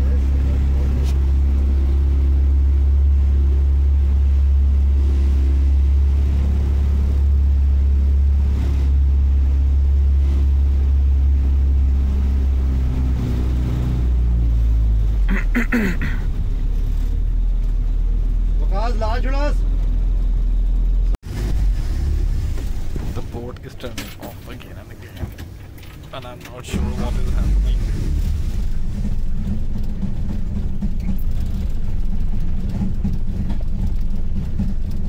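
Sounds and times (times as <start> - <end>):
speedboat engine droning: 0.0 - 35.0.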